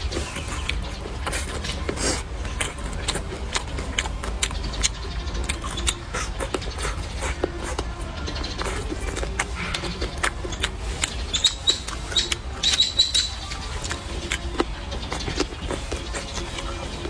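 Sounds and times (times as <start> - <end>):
chewing and mouth sounds: 0.0 - 17.0
steady low hum: 0.0 - 17.0.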